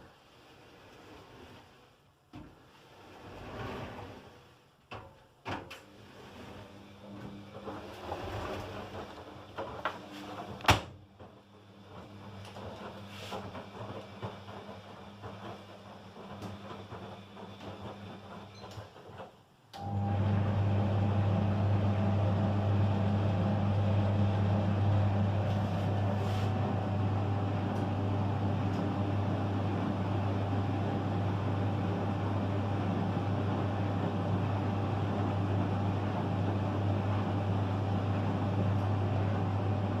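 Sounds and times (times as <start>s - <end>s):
clothes dryer running: 0.0s - 40.0s.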